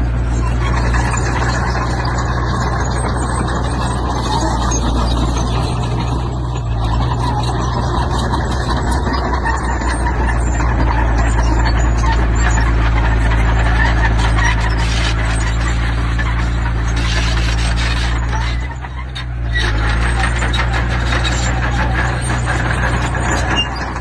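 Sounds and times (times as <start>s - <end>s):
diesel engine running under work: 0.0s - 24.0s.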